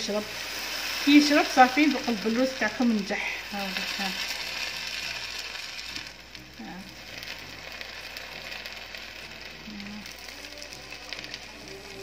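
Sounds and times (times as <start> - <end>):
hot cake sizzling under syrup: 0.0 - 12.0.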